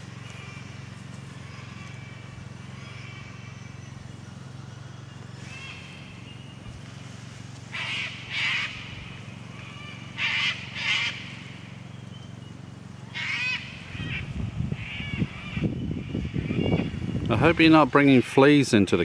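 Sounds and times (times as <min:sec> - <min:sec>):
faint bird whistling calls: 0:00.0 - 0:07.0, 0:07.7 - 0:17.1
loud bird calls: 0:00.0 - 0:18.2.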